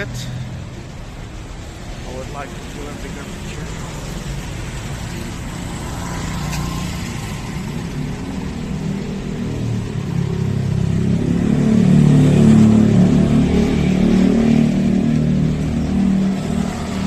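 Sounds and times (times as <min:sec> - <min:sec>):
vehicle engine passing by: 0:02.1 - 0:17.0.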